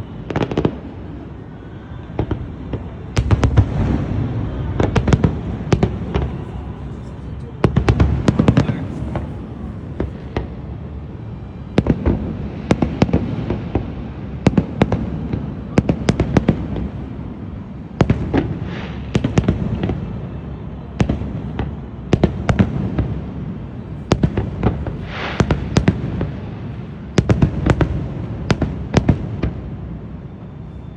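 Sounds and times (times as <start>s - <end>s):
fireworks bangs: 2.0s - 20.3s, 20.9s - 30.2s.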